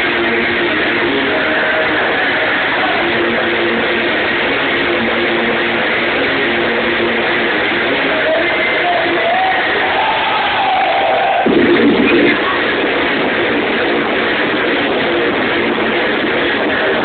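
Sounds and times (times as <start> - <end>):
loud club music: 0.0 - 17.0.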